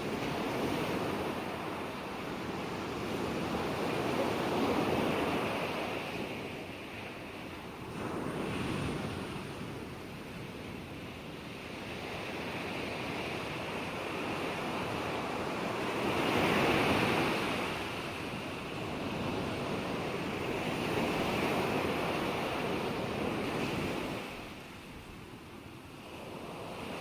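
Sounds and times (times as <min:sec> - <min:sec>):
ocean waves breaking on shore: 0:00.0 - 0:27.0.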